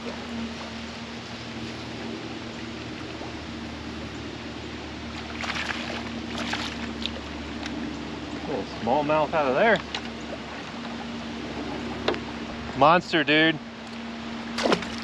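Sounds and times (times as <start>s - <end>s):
river water trickling and lapping: 0.0s - 15.0s
steady low hum: 0.0s - 15.0s.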